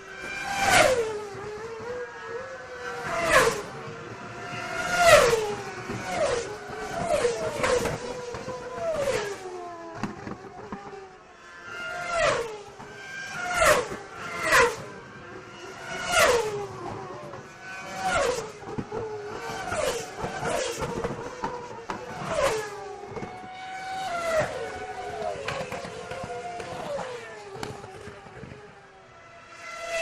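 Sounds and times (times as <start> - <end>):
race cars passing by: 0.0 - 30.0.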